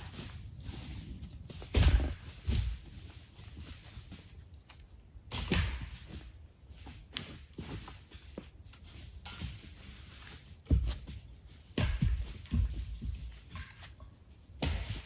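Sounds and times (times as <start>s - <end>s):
footsteps crunching through dry leaves: 0.0s - 13.5s
thuds and rustles: 0.0s - 15.0s.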